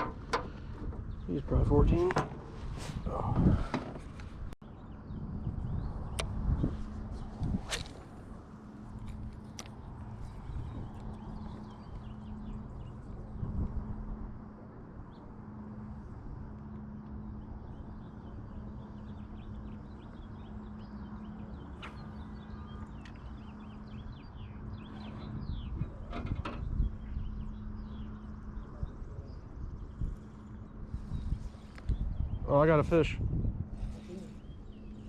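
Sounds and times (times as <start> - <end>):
low hum and rumble: 0.0 - 35.0
small birds chirping: 0.4 - 2.1, 3.0 - 13.9, 15.0 - 35.0.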